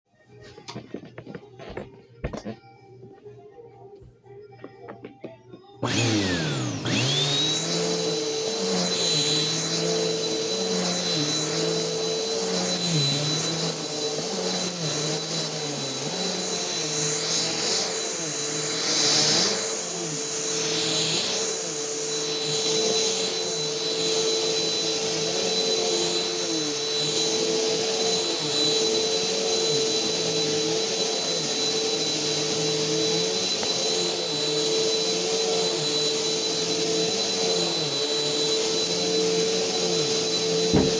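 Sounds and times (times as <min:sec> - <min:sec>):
vacuum cleaner running: 0:04.9 - 0:40.9.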